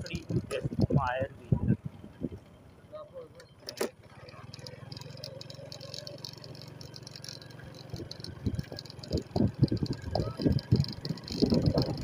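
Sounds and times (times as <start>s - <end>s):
engine droning: 0.0s - 12.0s
light rattle: 2.0s - 12.0s.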